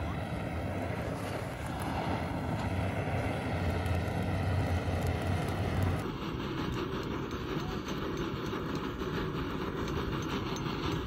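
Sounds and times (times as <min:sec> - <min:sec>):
butane torch roaring: 0:00.0 - 0:10.9.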